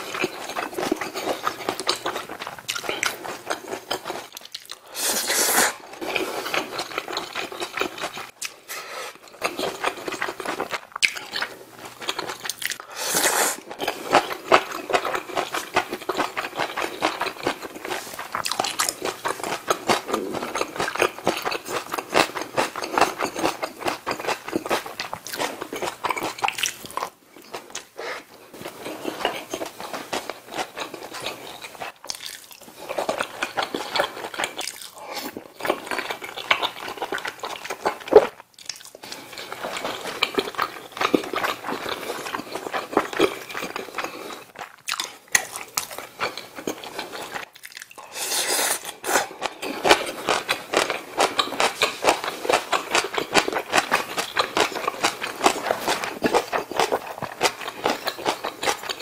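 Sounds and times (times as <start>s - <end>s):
chewing and crunching: 0.0s - 4.9s, 5.8s - 12.9s, 13.5s - 59.0s.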